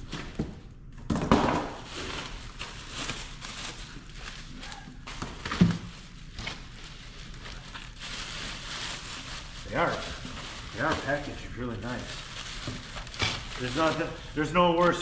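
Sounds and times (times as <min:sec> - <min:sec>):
packaging rustling and crinkling: 0:01.5 - 0:15.0.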